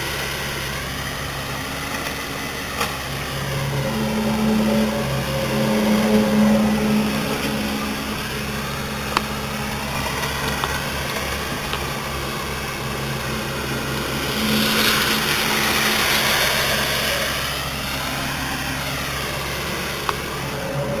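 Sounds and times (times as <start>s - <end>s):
outdoor droning hum: 0.0s - 21.0s
rushing noise: 0.0s - 21.0s.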